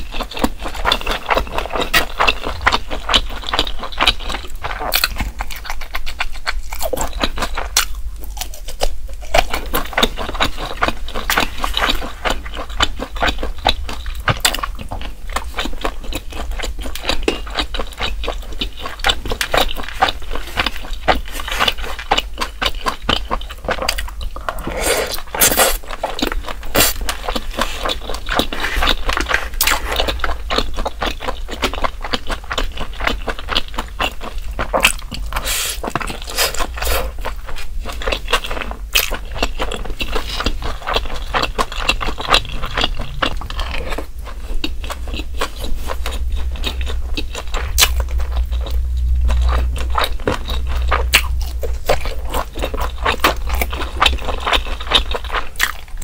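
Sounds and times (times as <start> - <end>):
chewing with wet mouth clicks: 0.0 - 56.0.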